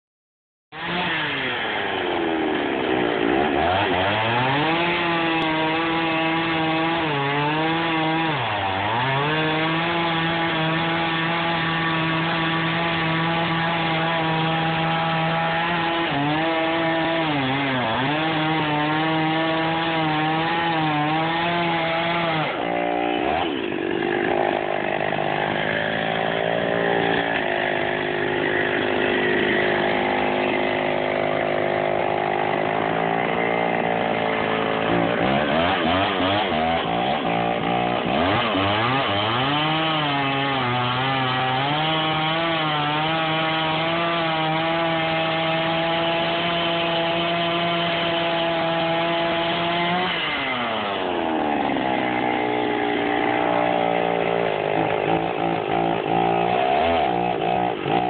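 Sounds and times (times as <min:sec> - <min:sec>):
chainsaw cutting log: 0:00.7 - 0:58.0.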